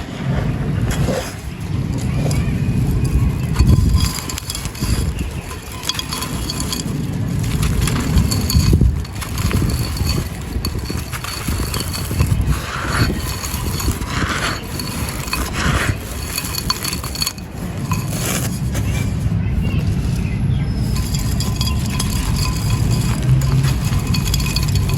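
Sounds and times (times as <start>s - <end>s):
dry sand-cement crunching: 0.9s - 24.9s.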